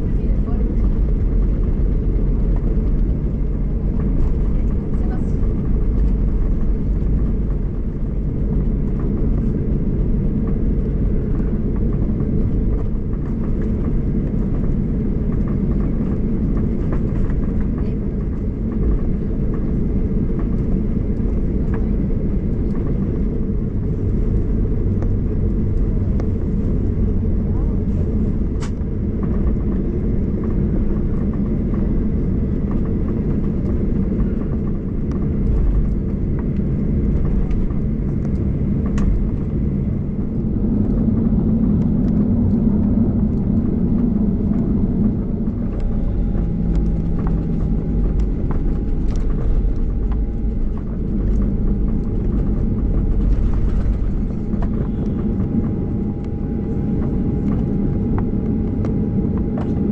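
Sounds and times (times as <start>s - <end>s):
aircraft cabin engine rumble: 0.0s - 59.9s
faint steady whine: 0.0s - 59.9s.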